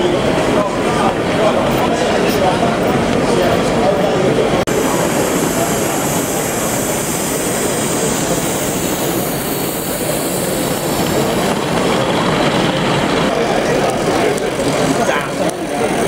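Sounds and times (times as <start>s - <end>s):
model train wheels on rail: 0.0s - 16.0s.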